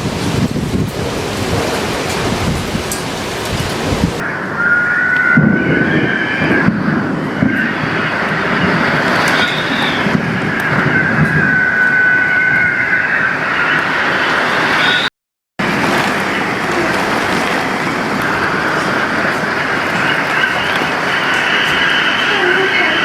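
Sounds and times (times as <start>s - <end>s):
high wind whistle: 0.0s - 23.0s
strong wind rushing: 0.0s - 23.0s.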